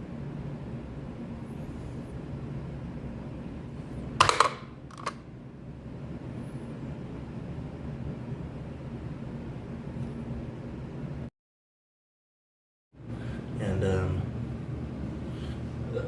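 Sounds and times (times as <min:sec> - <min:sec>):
steady low hum: 0:00.0 - 0:11.3, 0:13.0 - 0:16.0.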